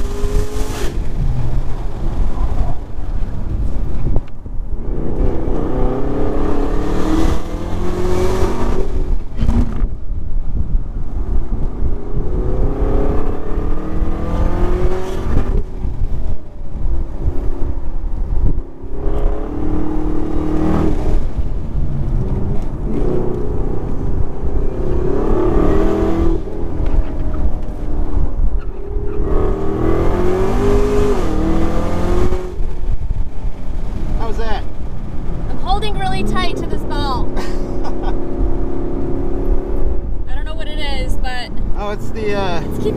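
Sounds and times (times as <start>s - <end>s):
car engine accelerating: 0.0s - 10.0s, 10.9s - 42.9s.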